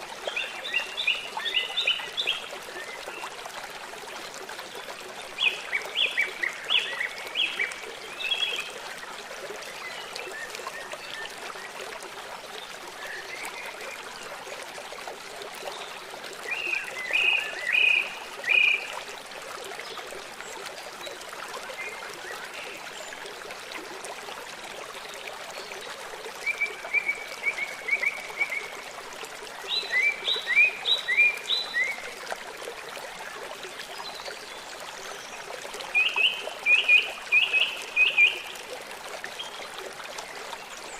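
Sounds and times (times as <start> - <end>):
trickle of running water: 0.0 - 40.9.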